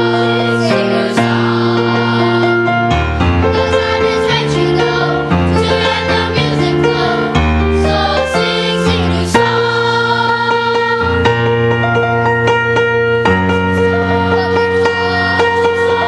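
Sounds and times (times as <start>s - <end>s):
children's choir singing: 0.0s - 11.6s, 13.8s - 16.0s
instrumental accompaniment: 0.0s - 16.0s.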